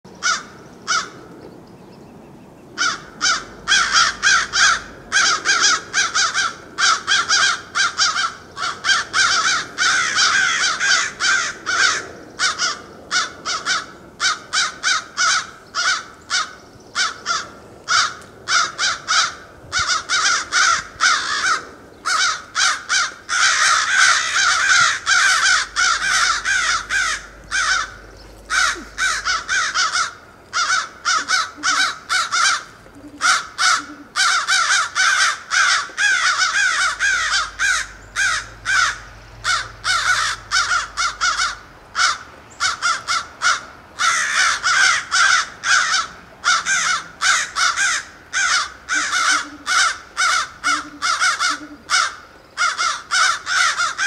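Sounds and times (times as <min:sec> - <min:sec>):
crows cawing harshly: 0:00.2 - 0:01.2, 0:02.8 - 0:54.0.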